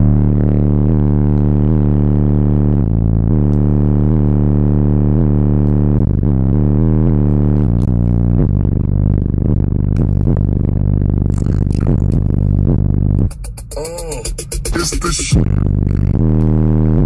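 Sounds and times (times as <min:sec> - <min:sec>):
bass-heavy music through subwoofer: 0:00.0 - 0:17.0.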